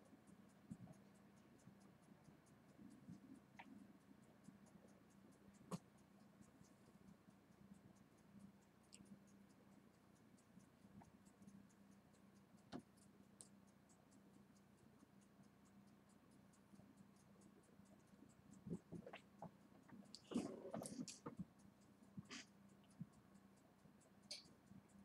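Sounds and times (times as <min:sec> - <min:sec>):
low steady hum: 0:00.0 - 0:25.0
rapid faint ticking: 0:00.0 - 0:25.0.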